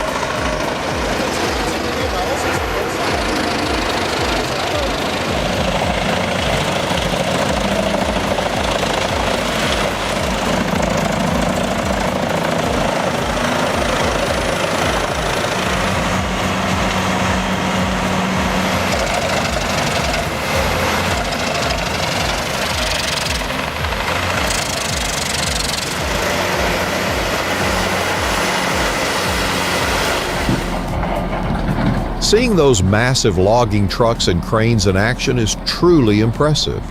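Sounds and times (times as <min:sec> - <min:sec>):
heavy vehicle engine running: 0:00.0 - 0:36.9.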